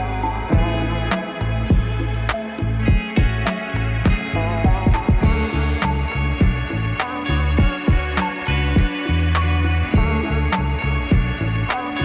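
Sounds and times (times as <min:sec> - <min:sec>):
music with steady drum beat: 0:00.5 - 0:11.9.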